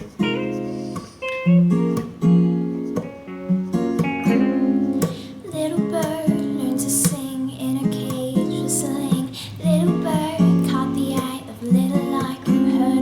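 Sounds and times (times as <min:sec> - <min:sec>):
acoustic guitar picked and strummed: 0:00.0 - 0:13.0.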